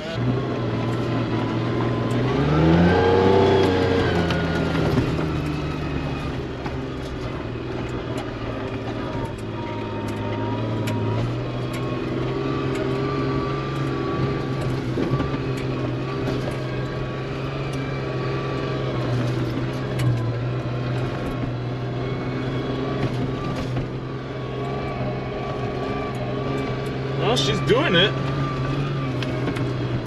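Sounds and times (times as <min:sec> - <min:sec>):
car engine running under load: 0:00.0 - 0:30.0.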